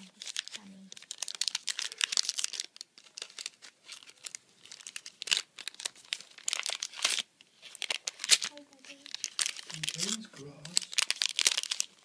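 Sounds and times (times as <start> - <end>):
paper wrapping rustling and crackling: 0.0 - 12.0.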